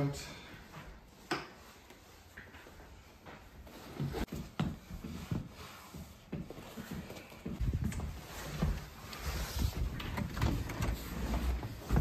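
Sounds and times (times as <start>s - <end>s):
soft footsteps: 0.5s - 10.3s.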